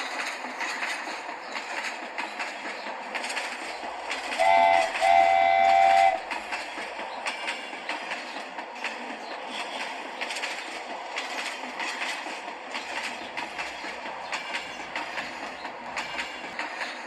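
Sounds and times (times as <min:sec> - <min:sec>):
train rattling on rails: 0:00.0 - 0:17.0
wheels clickety-clack over joints: 0:00.0 - 0:17.0.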